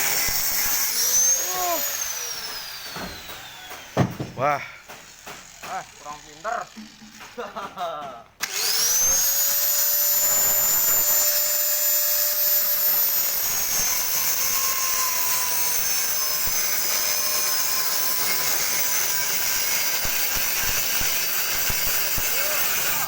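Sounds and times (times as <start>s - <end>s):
angle grinder cutting metal: 0.0s - 7.6s, 8.4s - 23.0s.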